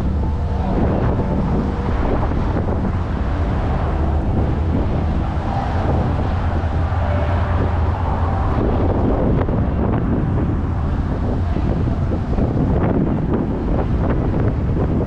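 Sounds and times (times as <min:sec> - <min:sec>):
traffic passing by: 0:00.0 - 0:15.0
wind buffeting microphone: 0:00.0 - 0:15.0.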